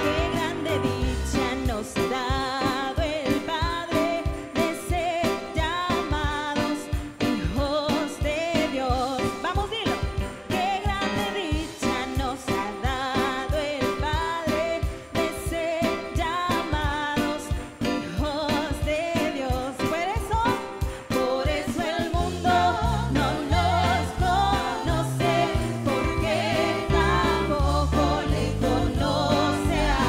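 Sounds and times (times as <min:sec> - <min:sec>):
drum kit upbeat rhythm: 0:00.0 - 0:30.0
keyboard: 0:00.0 - 0:30.0
people singing into microphones: 0:00.0 - 0:30.0.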